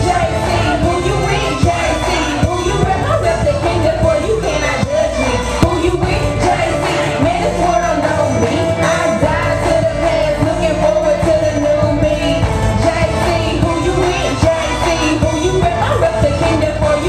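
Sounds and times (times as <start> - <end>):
hip-hop beat through speakers: 0.0 - 17.0
woman singing into a microphone: 0.0 - 17.0.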